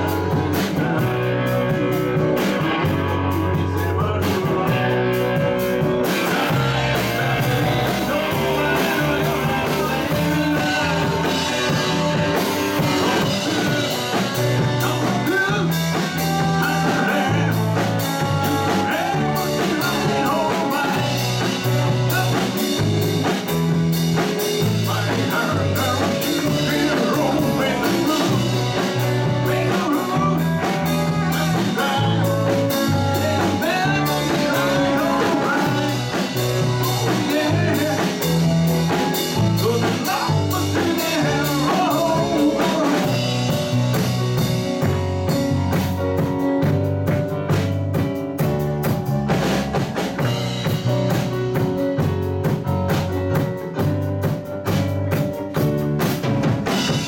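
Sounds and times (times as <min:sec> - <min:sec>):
man singing: 0:00.0 - 0:46.8
live blues rock band: 0:00.0 - 0:57.0
walking bass line: 0:00.0 - 0:57.0.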